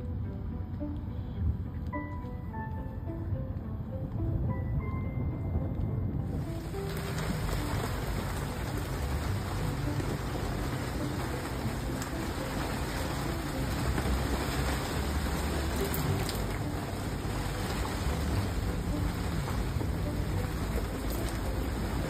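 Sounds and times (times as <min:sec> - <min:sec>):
low rumble: 0:00.0 - 0:22.0
rain on vinyl enclosure: 0:00.0 - 0:22.0.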